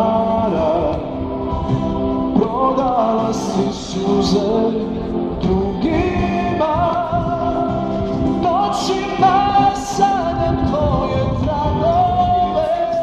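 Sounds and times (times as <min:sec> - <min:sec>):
backing music: 0:00.0 - 0:13.0
man singing a pop ballad: 0:00.0 - 0:13.0.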